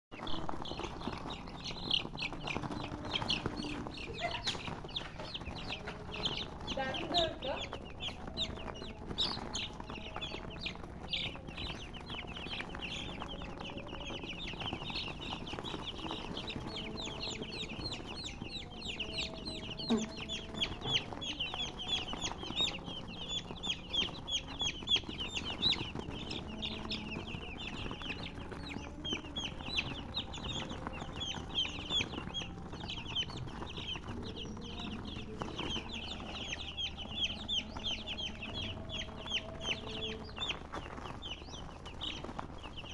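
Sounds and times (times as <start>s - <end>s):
chickens chirping: 0.1s - 42.9s
chicken clucking: 0.2s - 42.9s.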